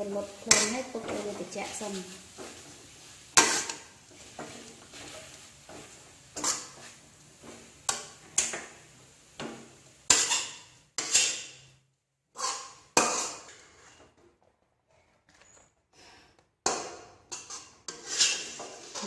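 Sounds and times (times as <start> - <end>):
metal spatula scraping a wok: 0.0 - 14.2, 16.6 - 19.0.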